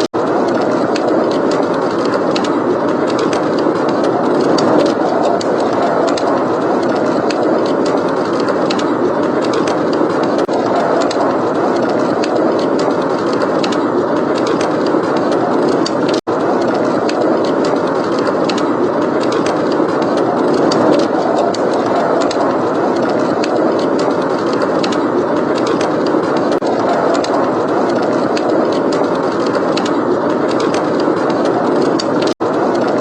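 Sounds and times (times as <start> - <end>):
blizzard wind rushing: 0.0 - 33.0
wood fire crackling: 0.0 - 33.0.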